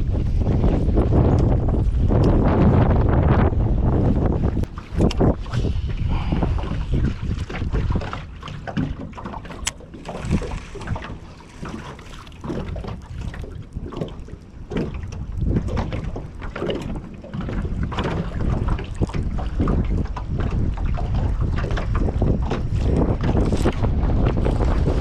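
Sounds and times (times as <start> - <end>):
knocks and splashes from boat: 0.0 - 25.0
wind buffeting microphone: 0.0 - 25.0.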